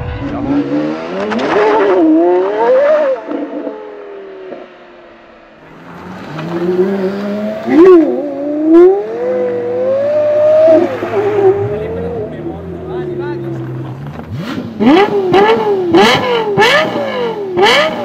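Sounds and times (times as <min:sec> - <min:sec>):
sports car engine revving: 0:00.1 - 0:04.7, 0:05.6 - 0:18.0.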